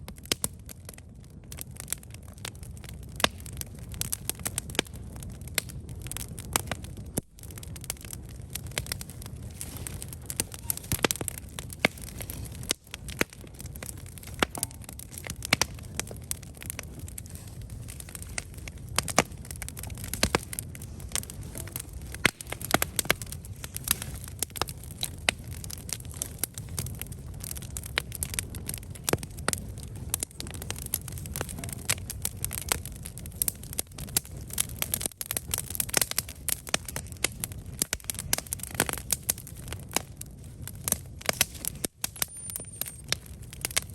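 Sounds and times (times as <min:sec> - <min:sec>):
campfire crackling and popping: 0:00.0 - 0:43.9
low rumble of flames: 0:00.0 - 0:43.9.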